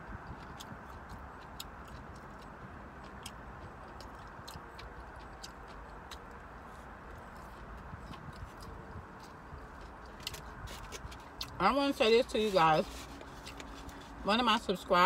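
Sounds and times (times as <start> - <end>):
crunchy chewing: 0.0 - 14.2.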